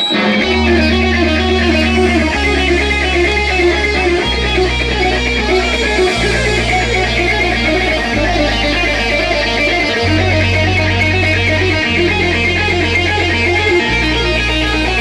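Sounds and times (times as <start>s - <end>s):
electric guitar picked figure: 0.0s - 15.0s
low held bass notes: 0.2s - 15.0s.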